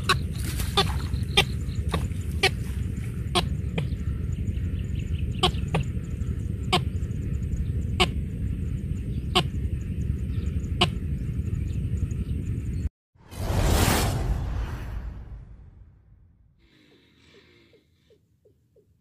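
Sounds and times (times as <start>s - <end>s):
steady low rumble: 0.0s - 16.6s.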